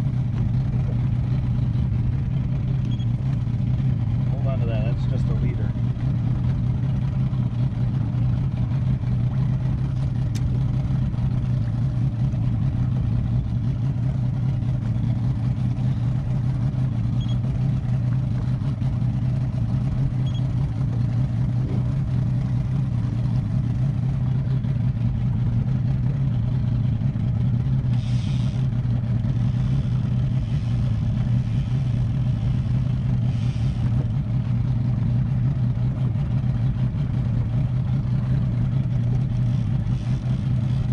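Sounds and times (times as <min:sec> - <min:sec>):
boat engine running steadily: 0:00.0 - 0:40.9.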